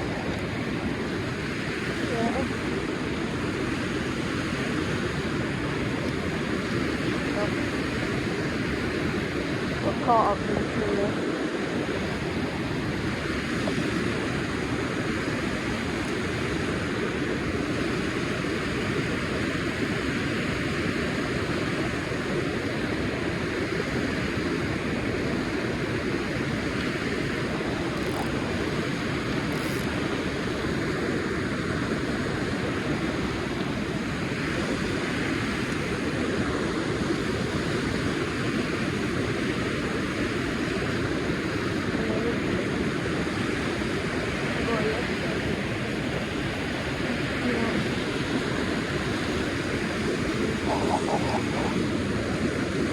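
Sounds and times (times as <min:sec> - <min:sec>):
fast-flowing river rushing: 0:00.0 - 0:52.9.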